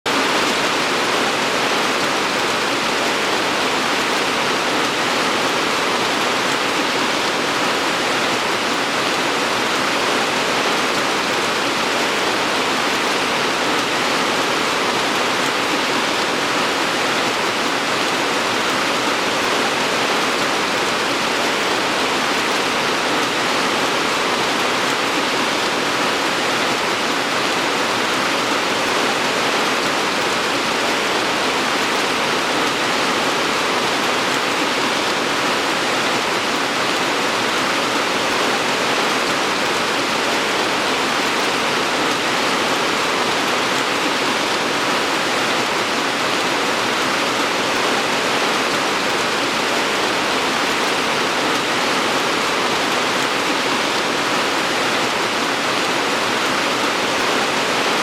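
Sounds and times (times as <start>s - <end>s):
steady rain hiss: 0.1s - 58.0s.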